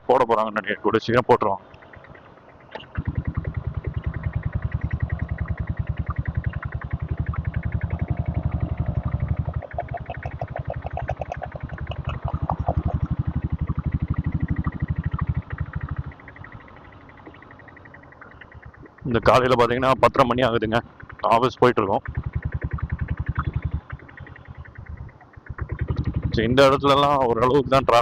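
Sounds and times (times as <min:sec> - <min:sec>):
motorcycle diesel engine thudding: 0:01.8 - 0:28.0.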